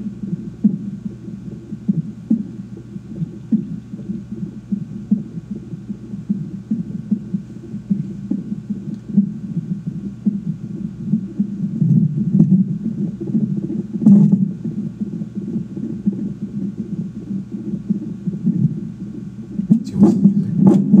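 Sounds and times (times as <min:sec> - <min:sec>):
fetal heartbeat: 0:00.0 - 0:21.0.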